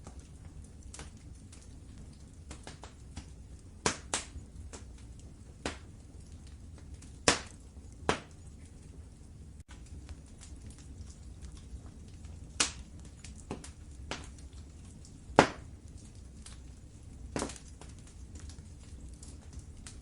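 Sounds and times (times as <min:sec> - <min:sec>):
loud fire pops: 0:00.0 - 0:20.0
low steady fire rumble: 0:00.0 - 0:20.0
wood fire crackling: 0:00.0 - 0:20.0.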